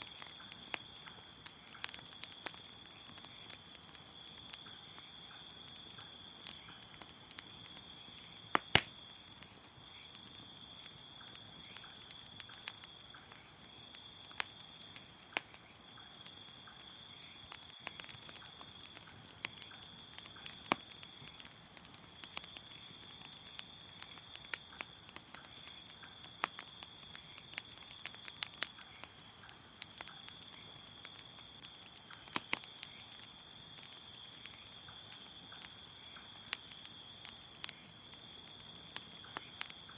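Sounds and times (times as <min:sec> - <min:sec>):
campfire pops: 0:00.0 - 0:39.9
crackling campfire: 0:00.0 - 0:39.9
crickets chirping: 0:00.0 - 0:39.9.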